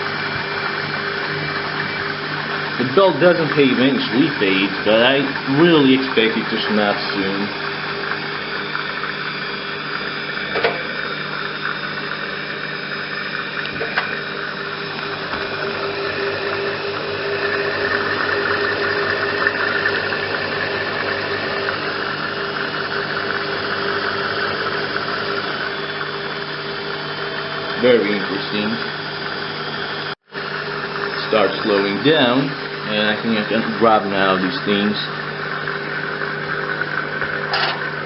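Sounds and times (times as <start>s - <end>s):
washing machine spinning: 0.0s - 38.0s.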